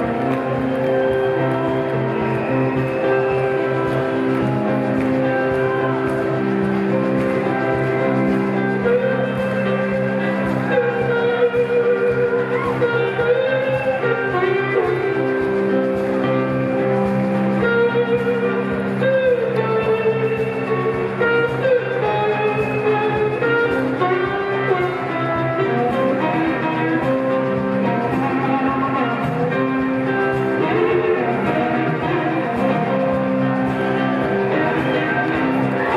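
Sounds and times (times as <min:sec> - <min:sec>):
electric guitar lead: 0:00.0 - 0:35.9.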